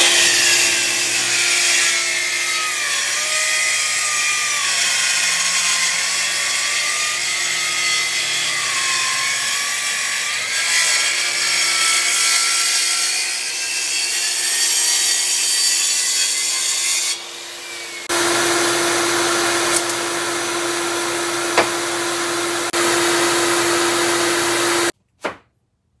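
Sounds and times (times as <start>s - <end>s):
saw cutting a board: 0.0s - 25.0s.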